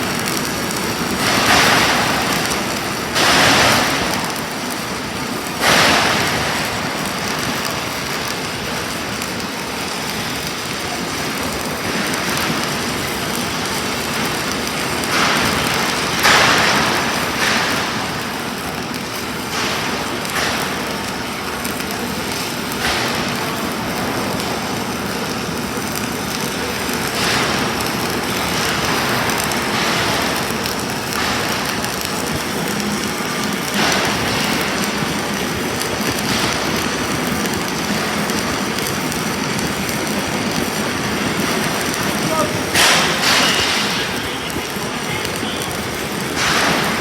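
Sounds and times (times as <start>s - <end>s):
welding arc burning: 0.0s - 47.0s.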